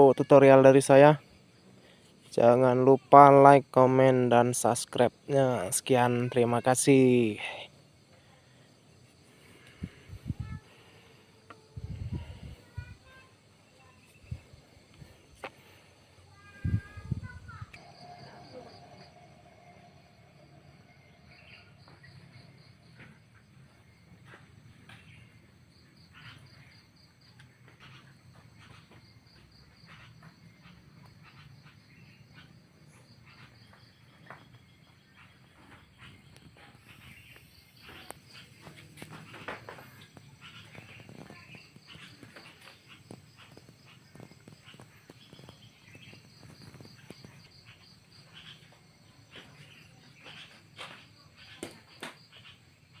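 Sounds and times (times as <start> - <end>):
insects chirping: 0.0 - 53.0.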